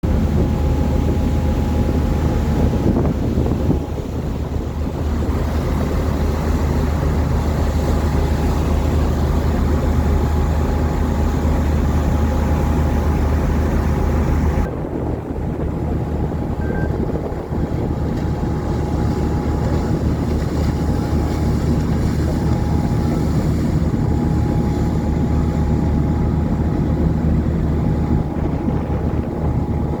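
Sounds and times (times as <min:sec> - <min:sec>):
boat engine droning: 0:00.0 - 0:30.0
wind buffeting microphone: 0:00.0 - 0:30.0.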